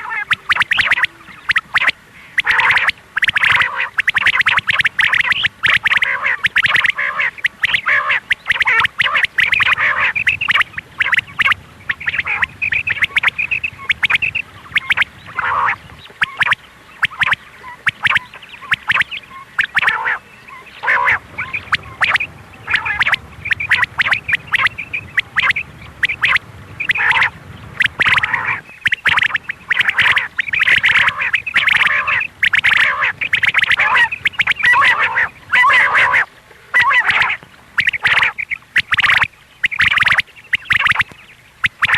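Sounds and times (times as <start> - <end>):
quail calling: 0.0 - 41.9.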